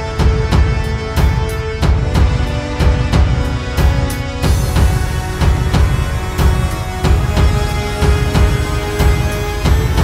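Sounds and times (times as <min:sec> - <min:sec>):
music with heavy low drum hits: 0:00.0 - 0:10.0.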